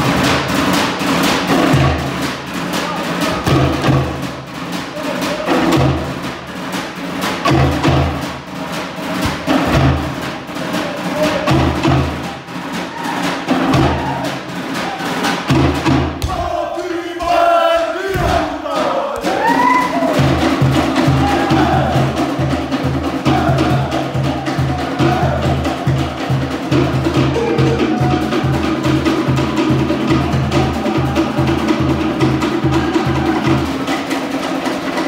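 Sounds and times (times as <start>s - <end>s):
deep skin drum beat: 0.0s - 35.0s
wooden log drums rhythm: 0.0s - 35.0s.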